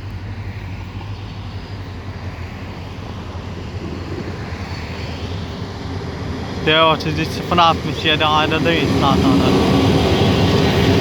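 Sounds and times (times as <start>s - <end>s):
diesel locomotive engine rumbling: 0.0s - 11.0s.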